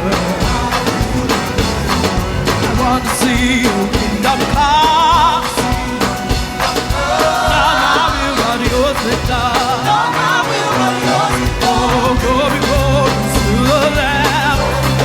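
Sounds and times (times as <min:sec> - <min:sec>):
band playing a steady beat: 0:00.0 - 0:15.0
voices singing: 0:00.0 - 0:15.0.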